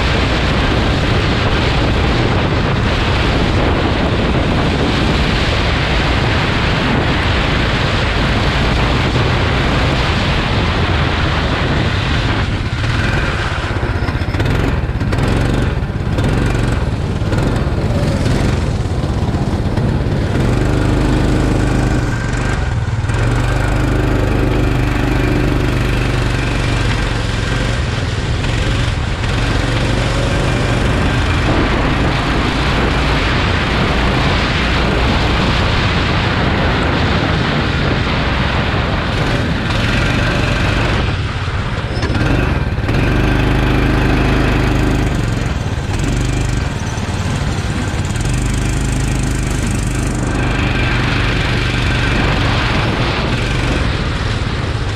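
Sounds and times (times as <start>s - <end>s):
go-kart engine running hard: 0.0s - 54.9s
rush of noise: 0.0s - 54.9s.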